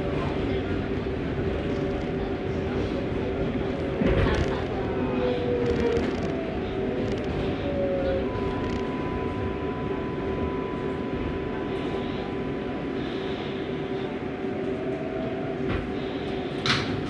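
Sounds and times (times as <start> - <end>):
subway train running hum: 0.0 - 17.0.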